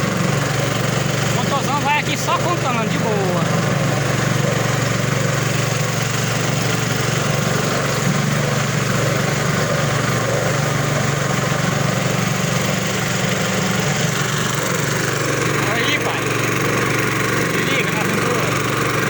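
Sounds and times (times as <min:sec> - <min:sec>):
boat motor running: 0:00.0 - 0:19.0
white water rushing: 0:00.0 - 0:19.0.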